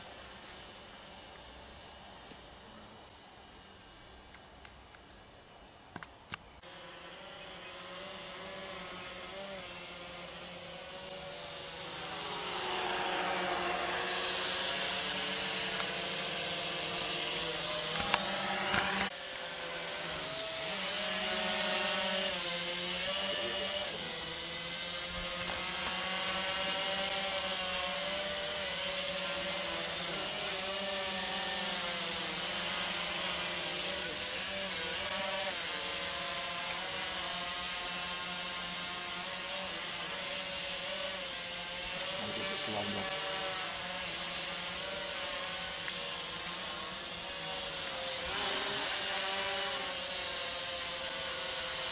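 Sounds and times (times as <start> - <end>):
drone propellers whining: 5.6 - 51.9.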